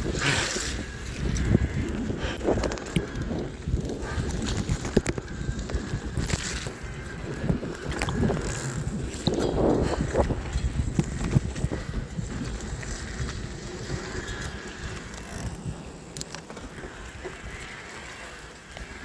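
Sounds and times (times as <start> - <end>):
bike tyres rumbling on rough track: 0.0 - 19.0
wind on microphone: 0.0 - 19.0.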